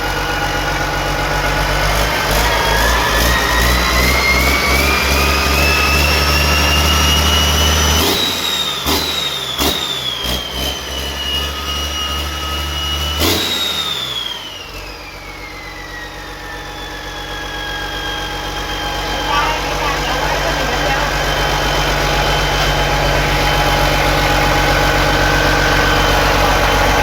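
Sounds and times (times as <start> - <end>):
engine droning and whining: 0.0 - 27.0.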